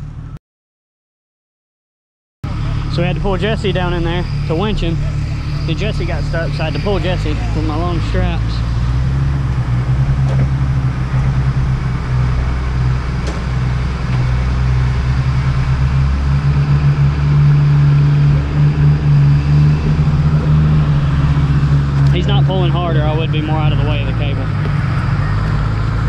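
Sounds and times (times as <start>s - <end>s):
off-road vehicle engine running: 0.0s - 0.4s, 2.4s - 26.0s.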